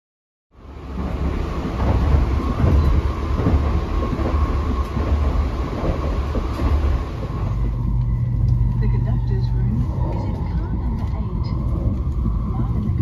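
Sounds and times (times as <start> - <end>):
train wheels rumbling on track: 0.6 - 13.0.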